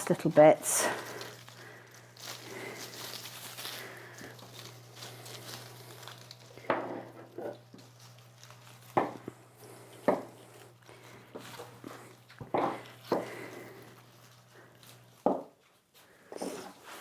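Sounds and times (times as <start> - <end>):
foliage rustling: 0.0 - 6.7, 7.5 - 15.2.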